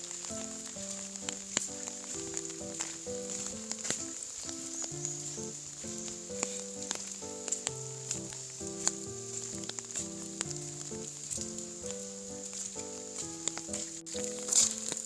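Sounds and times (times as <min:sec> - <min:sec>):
crackling hiss: 0:00.0 - 0:15.0.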